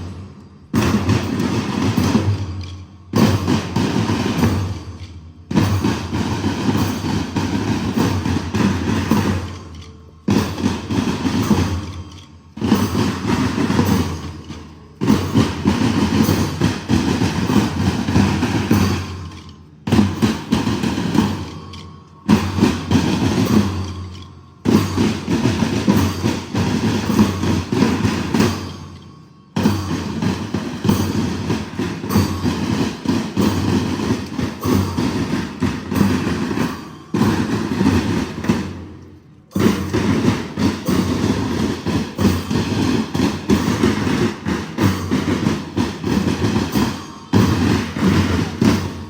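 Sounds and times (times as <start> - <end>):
marching band playing: 0.0 - 49.0.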